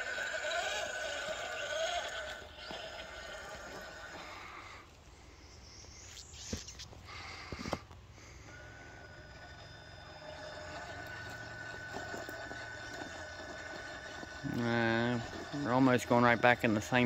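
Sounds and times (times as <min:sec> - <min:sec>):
rc car motor whining: 0:00.0 - 0:04.9, 0:07.1 - 0:17.0.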